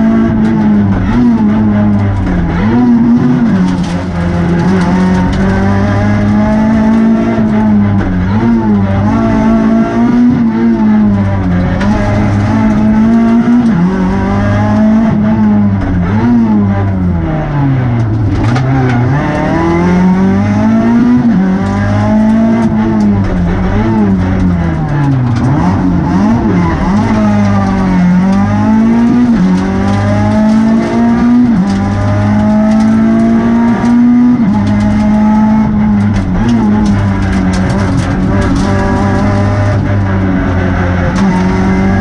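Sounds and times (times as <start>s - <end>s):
rally car engine from cabin: 0.0s - 42.0s.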